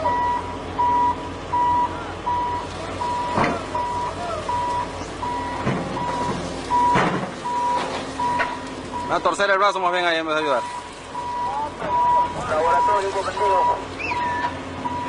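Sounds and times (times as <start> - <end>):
reversing alarm beeps: 0.0 - 9.4, 10.5 - 15.0
diesel engine running: 0.0 - 15.0.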